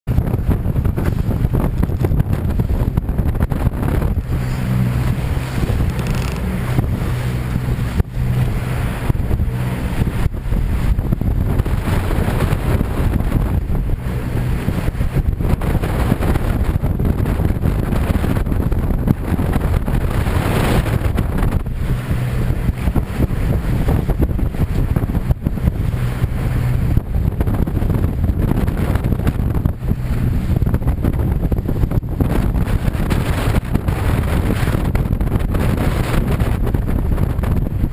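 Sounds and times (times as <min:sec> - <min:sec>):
outboard engine humming: 0:00.1 - 0:37.9
wind buffeting microphone: 0:00.1 - 0:37.9.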